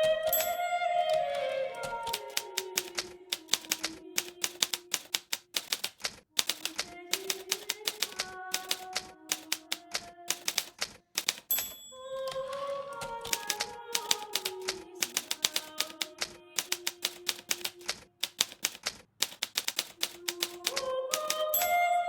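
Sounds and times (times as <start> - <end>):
typewriter key clacks: 0.3 - 0.6, 2.0 - 11.8, 12.5 - 21.7.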